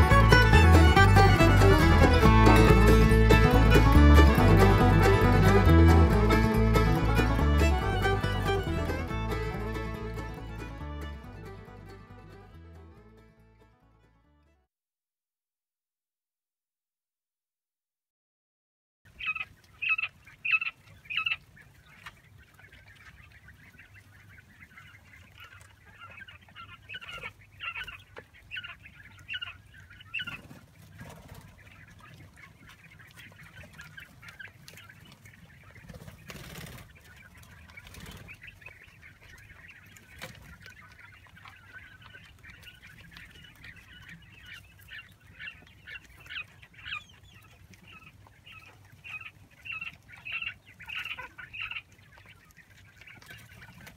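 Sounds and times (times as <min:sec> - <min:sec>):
quail chicks peeping: 0:00.0 - 0:13.4, 0:19.1 - 0:53.9.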